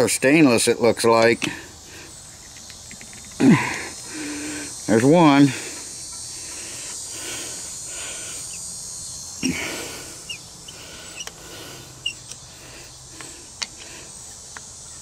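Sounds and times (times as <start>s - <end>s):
faint hiss: 0.3s - 15.0s.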